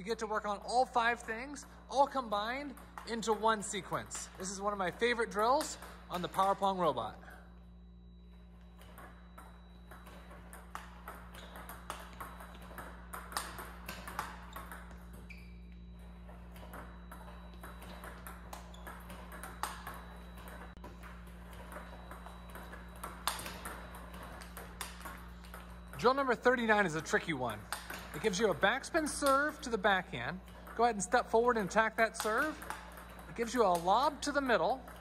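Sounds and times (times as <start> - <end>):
ping pong balls clicking: 0.1 - 7.4, 8.3 - 35.0.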